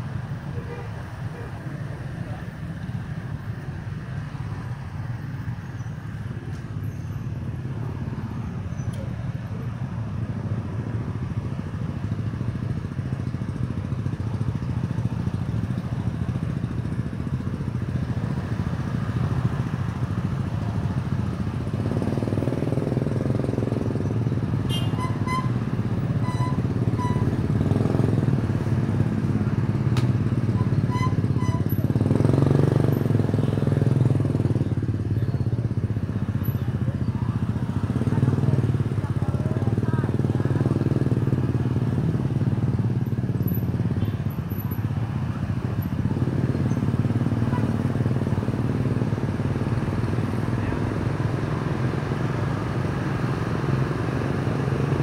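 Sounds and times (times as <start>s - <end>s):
motorcycle and car engines: 0.0s - 55.0s
tyres on road: 0.0s - 55.0s.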